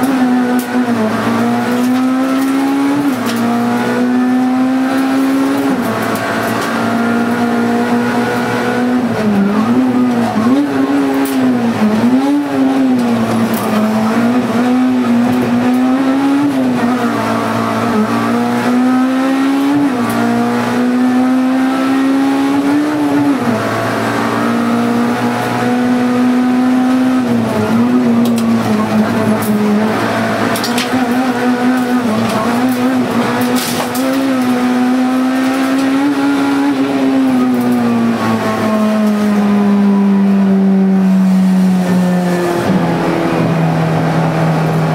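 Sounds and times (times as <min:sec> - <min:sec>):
car engine revving high: 0:00.0 - 0:44.9.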